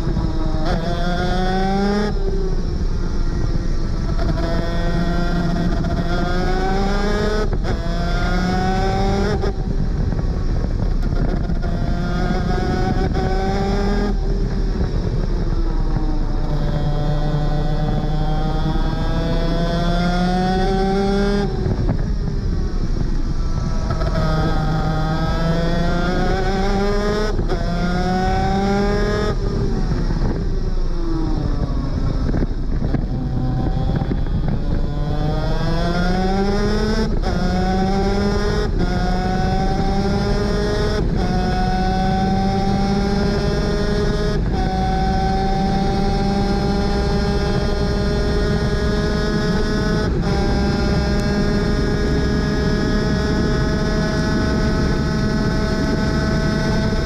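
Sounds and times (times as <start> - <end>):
two-stroke kart engine revving: 0.0 - 57.0.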